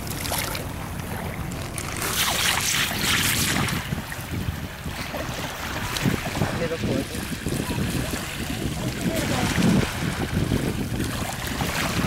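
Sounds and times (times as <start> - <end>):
waves lapping on pebbles: 0.0 - 12.0
wind buffeting microphone: 0.8 - 12.0.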